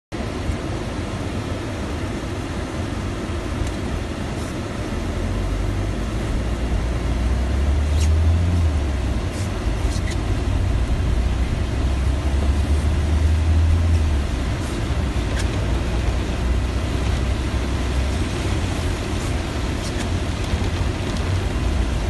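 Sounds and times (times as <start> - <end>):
engine and road rumble: 0.1 - 22.0
rain hissing on windscreen: 0.3 - 22.0.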